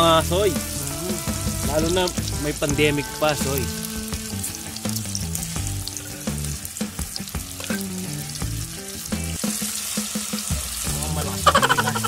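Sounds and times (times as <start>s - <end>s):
tofu sizzling in hot oil: 0.0s - 12.0s.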